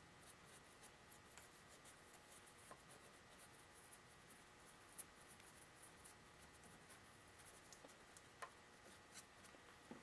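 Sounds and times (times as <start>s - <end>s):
paintbrush dabbing scratchy strokes: 0.0s - 9.6s.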